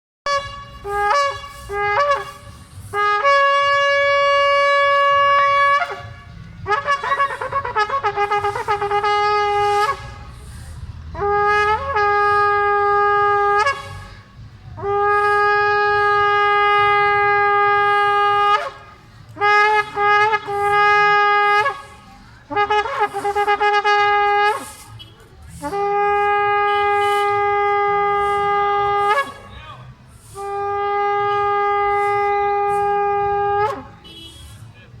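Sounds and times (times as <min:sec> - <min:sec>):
loud trumpet-like horn blasts: 0:00.2 - 0:34.8.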